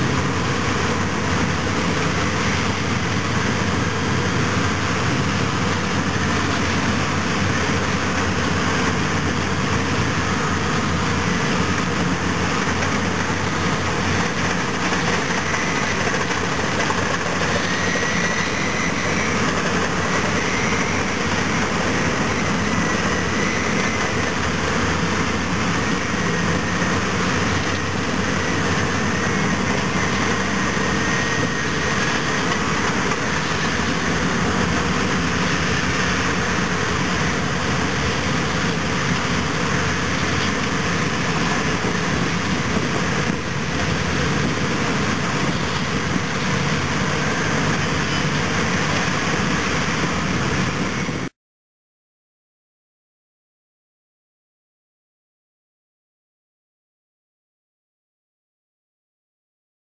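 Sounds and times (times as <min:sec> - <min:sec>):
heavy diesel engines running: 0:00.0 - 0:51.3.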